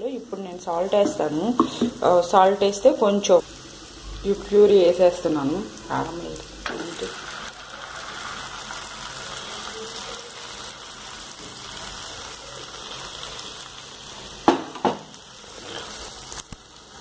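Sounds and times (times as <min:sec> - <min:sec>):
potatoes and onions sizzling in oil: 0:00.0 - 0:17.0.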